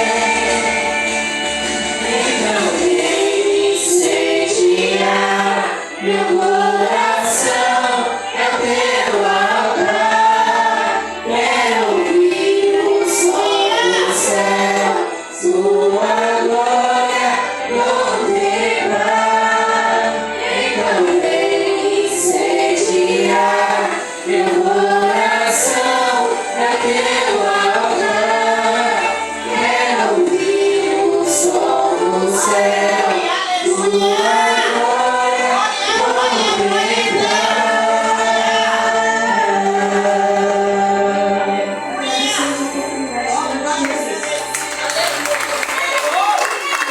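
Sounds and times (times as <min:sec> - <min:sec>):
group singing worship song: 0:00.0 - 0:46.9.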